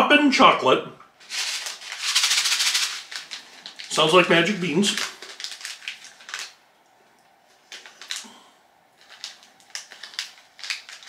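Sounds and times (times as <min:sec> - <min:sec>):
packet crackling: 0:01.2 - 0:06.6, 0:07.5 - 0:11.0.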